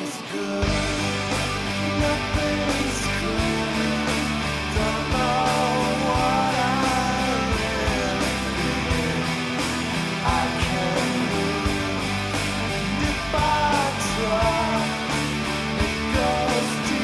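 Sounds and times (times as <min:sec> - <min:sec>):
rock song instrumental: 0:00.0 - 0:17.0.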